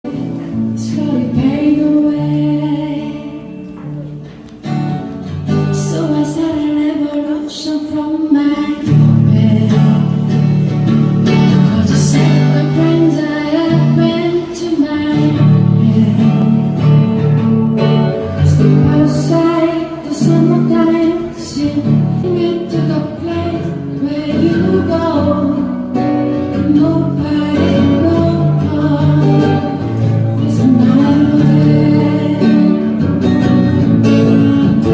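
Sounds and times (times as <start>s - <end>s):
acoustic guitar with accompaniment: 0.0s - 34.9s.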